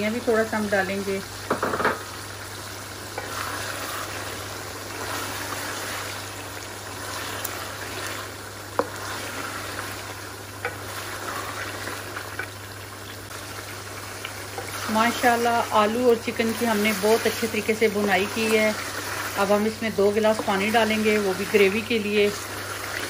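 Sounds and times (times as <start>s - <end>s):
curry sizzling in a pot: 0.0s - 23.0s.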